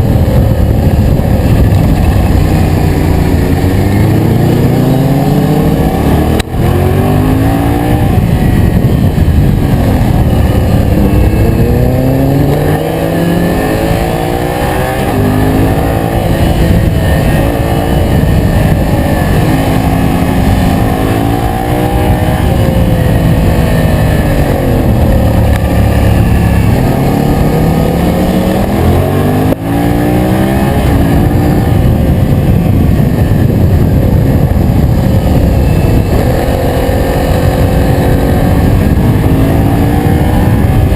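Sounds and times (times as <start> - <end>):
motorcycle engine revving: 0.0 - 40.9
road and wind noise: 0.0 - 40.9.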